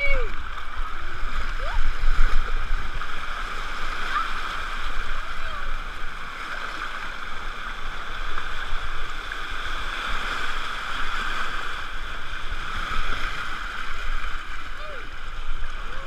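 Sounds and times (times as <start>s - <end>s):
rushing churning water: 0.0s - 16.0s.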